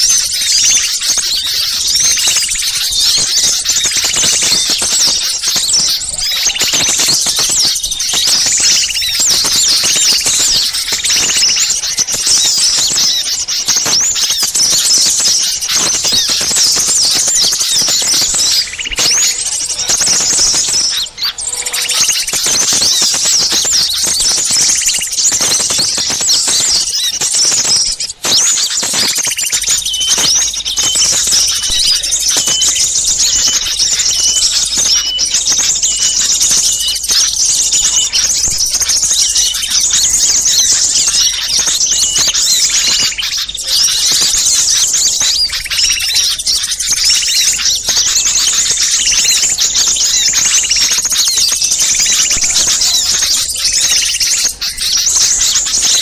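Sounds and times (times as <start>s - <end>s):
songbirds chirping chorus: 0.0s - 56.0s.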